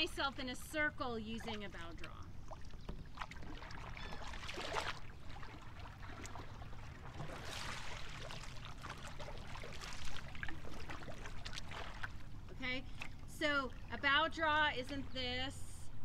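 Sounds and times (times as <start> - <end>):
paddle splashing through water: 0.0 - 15.2.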